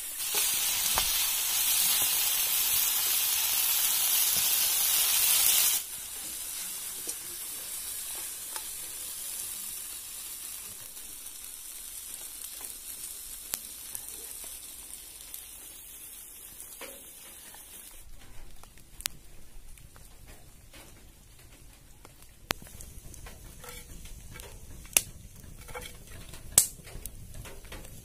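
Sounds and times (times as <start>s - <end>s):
caterpillars sizzling in hot oil: 0.0s - 18.1s, 22.1s - 28.0s.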